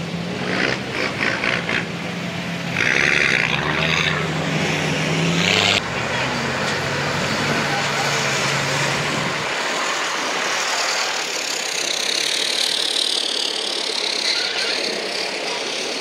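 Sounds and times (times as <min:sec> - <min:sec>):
hissing engines and tyres: 0:00.0 - 0:16.0
low engine hum: 0:00.0 - 0:16.0.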